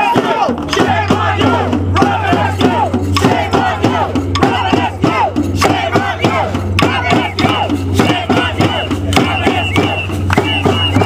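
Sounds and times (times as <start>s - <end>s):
crowd shouting and chanting: 0.0s - 11.0s
hand drums beaten with sticks: 0.0s - 11.0s.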